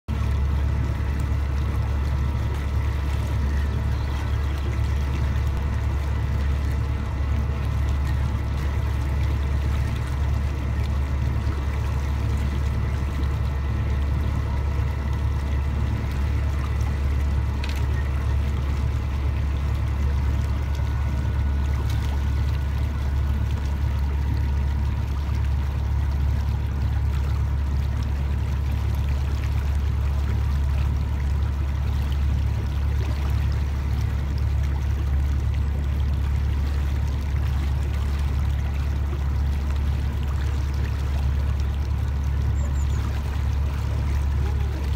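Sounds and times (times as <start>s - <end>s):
boat engine humming: 0.0s - 44.9s
water washing past hull: 0.1s - 44.9s.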